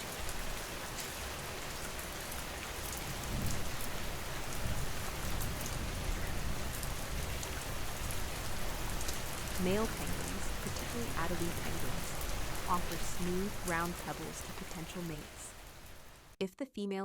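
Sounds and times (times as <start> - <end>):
steady rain falling: 0.0 - 16.4.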